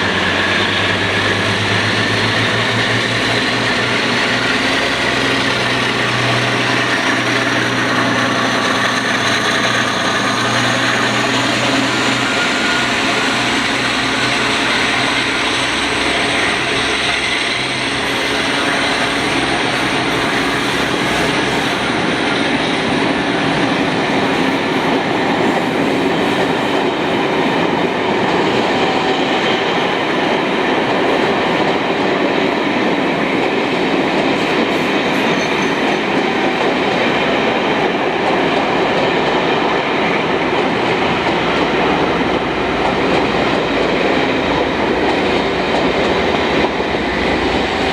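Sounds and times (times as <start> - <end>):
train rumbling past: 0.0 - 47.9.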